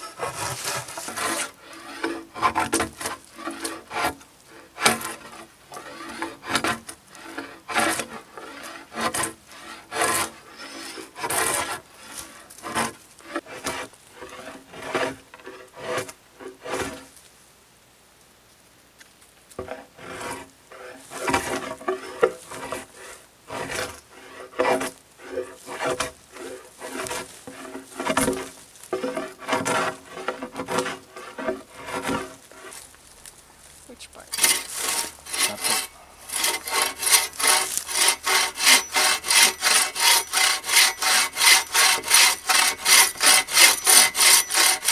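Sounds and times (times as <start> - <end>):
bow saw cutting wood: 0.0 - 17.1, 19.6 - 32.8, 34.3 - 44.9.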